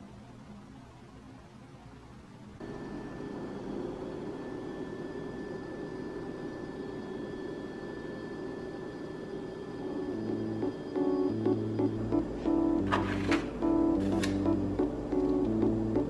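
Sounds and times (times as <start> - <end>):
faint high whine: 0.0 - 16.0
kitchen background hum: 0.0 - 16.0.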